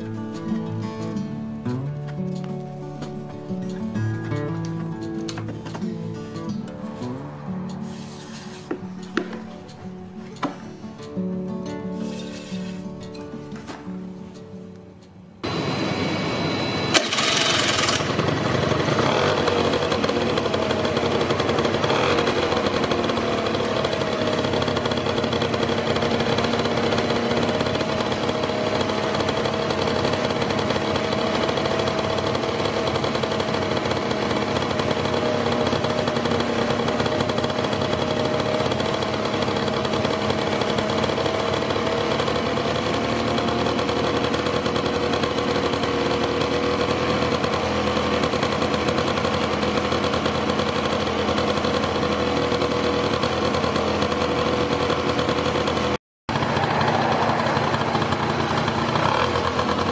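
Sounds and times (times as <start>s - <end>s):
scooter engine idling: 2.4s - 11.2s, 15.4s - 59.9s.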